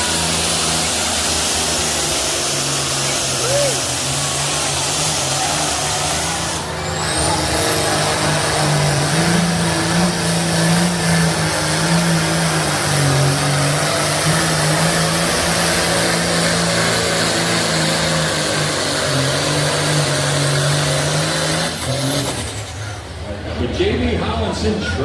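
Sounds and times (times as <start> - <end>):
tractor engine at high revs: 0.0 - 24.8.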